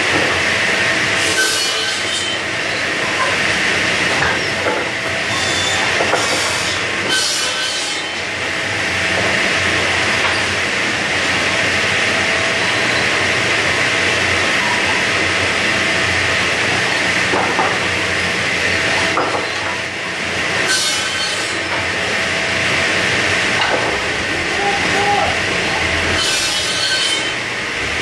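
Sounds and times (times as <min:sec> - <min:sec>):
power saw cutting lumber: 0:00.0 - 0:24.5, 0:25.4 - 0:28.0.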